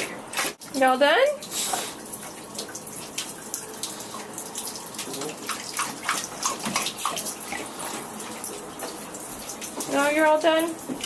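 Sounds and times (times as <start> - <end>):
dog lapping water: 0.0 - 11.0
running water: 0.0 - 11.0.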